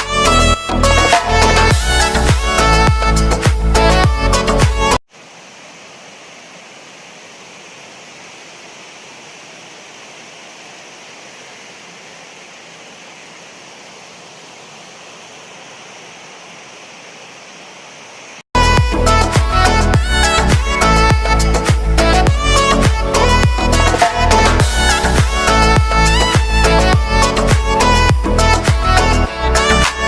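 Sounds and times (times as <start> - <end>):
waterfall rushing: 0.7 - 30.0.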